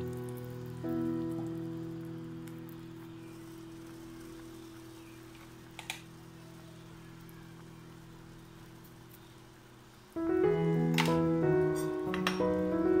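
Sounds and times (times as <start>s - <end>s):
cooktop humming: 0.0s - 13.0s.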